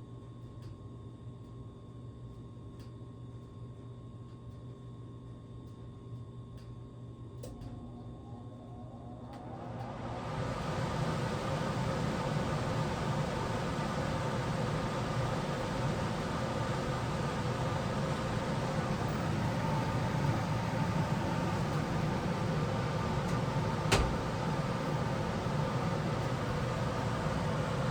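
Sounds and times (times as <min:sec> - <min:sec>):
faint constant hum: 0:00.0 - 0:27.9
furnace air whir: 0:00.1 - 0:27.9.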